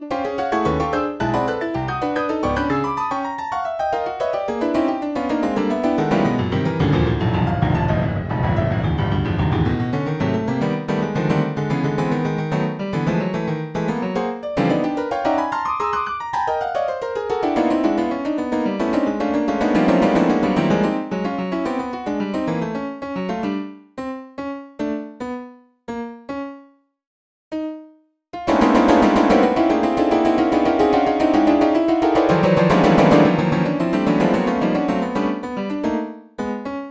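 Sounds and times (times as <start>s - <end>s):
dense piano-like keyboard music: 0.0s - 26.8s, 27.5s - 36.9s.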